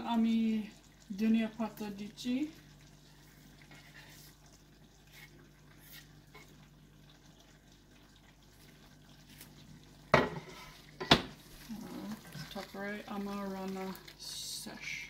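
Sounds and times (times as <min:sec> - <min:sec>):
curry simmering in a pan: 0:00.0 - 0:15.0.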